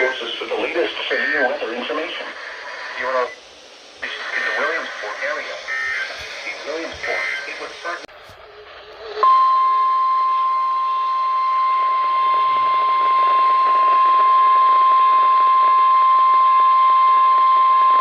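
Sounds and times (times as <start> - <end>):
steady warning alarm tone: 0.0 - 8.0, 9.2 - 18.0
radio hiss: 0.0 - 9.3, 10.7 - 17.2.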